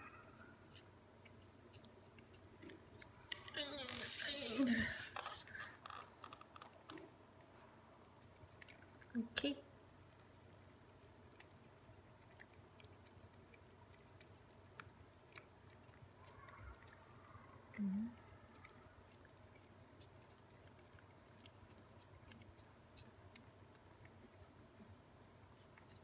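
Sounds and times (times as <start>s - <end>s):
cats licking: 0.6s - 26.0s.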